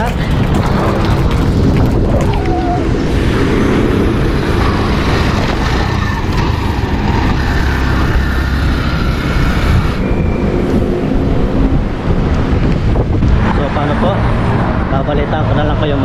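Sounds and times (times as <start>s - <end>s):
bicycle road rumble: 0.0s - 16.0s
wind buffeting microphone: 0.0s - 16.0s.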